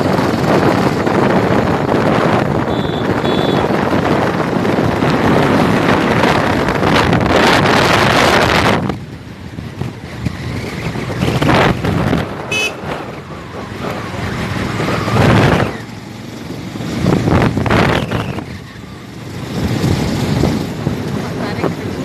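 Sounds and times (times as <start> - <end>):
motorcycle riding: 0.0 - 22.0
wind buffeting microphone: 0.0 - 22.0.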